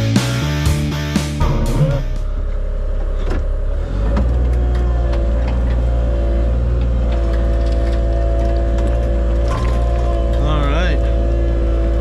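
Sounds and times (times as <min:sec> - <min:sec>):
dump truck engine running: 0:00.6 - 0:12.0.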